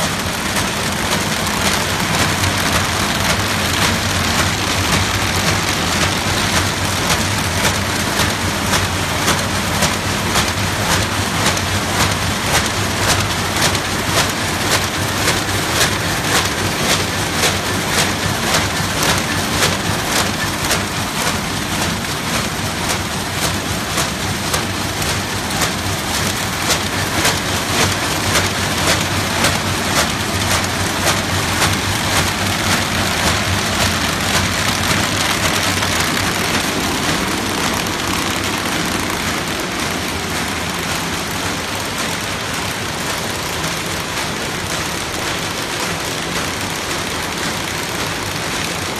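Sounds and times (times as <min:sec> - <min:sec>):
paper bag machine clattering: 0:00.0 - 0:48.9.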